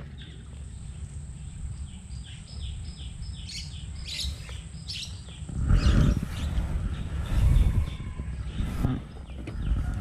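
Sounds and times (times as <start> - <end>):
bird chirping: 0.0 - 10.0
loud low rumbling noise: 0.0 - 10.0
steady low rumble: 0.0 - 10.0.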